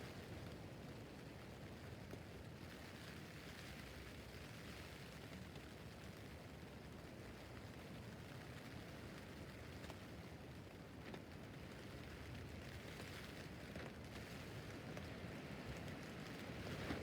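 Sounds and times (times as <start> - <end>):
rain on a tent roof: 0.0 - 17.0.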